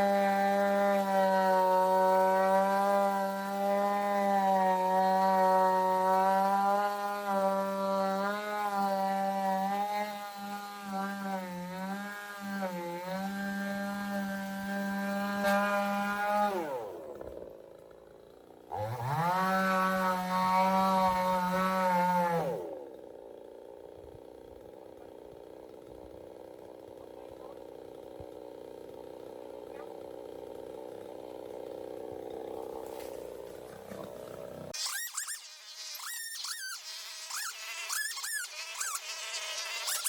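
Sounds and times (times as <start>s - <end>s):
chainsaw revving: 0.0s - 40.0s.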